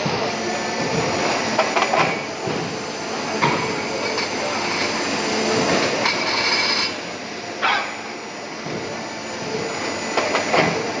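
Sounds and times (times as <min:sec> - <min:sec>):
steady machine noise: 0:00.0 - 0:11.0.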